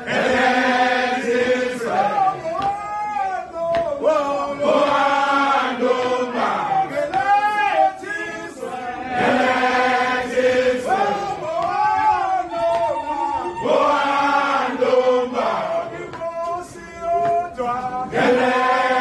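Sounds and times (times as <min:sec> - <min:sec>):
men singing a chant: 0:00.0 - 0:19.0.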